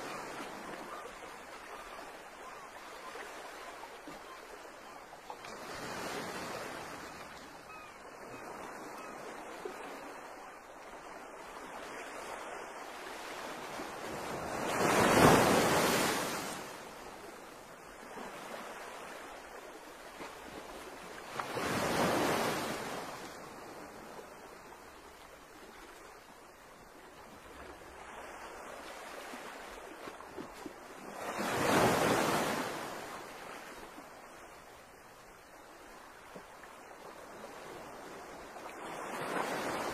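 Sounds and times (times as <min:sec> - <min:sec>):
seaside wind and water: 0:00.0 - 0:39.9.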